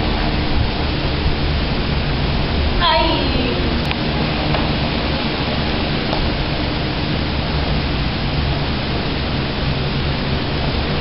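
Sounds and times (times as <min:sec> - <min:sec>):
loud steady hiss: 0:00.0 - 0:11.0
low hum: 0:00.0 - 0:11.0.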